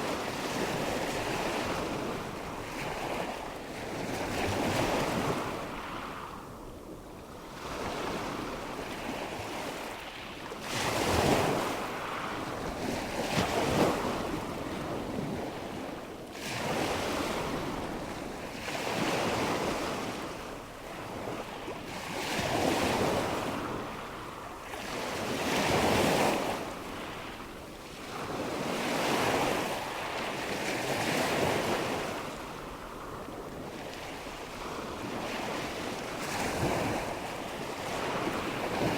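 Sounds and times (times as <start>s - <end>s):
wind: 0.0s - 38.9s.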